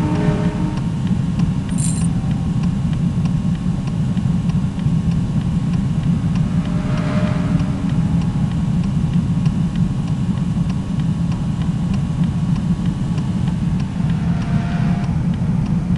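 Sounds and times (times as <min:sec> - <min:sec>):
vehicle interior rumble: 0:00.0 - 0:15.9.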